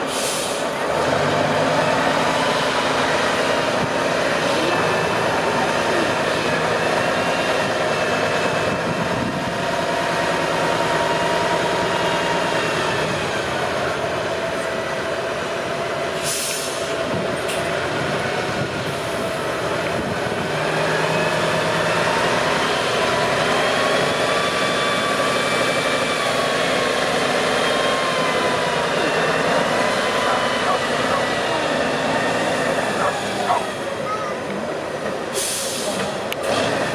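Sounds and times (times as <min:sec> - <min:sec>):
heavy truck engine whining: 0:00.0 - 0:36.9.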